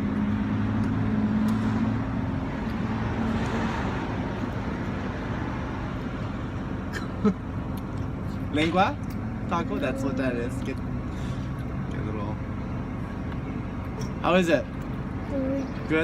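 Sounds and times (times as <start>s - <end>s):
vehicle engine humming: 0.0s - 16.0s
vehicle passing road noise: 0.0s - 16.0s.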